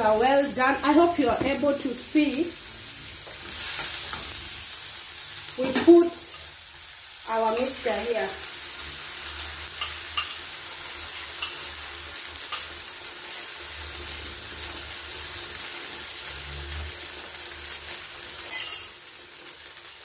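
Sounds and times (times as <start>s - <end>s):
eggs sizzling in a pan: 0.0s - 20.0s.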